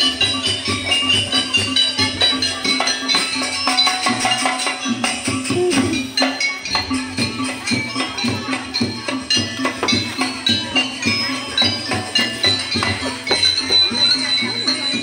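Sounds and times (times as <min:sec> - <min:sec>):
gamelan ensemble dance music: 0:00.0 - 0:15.0.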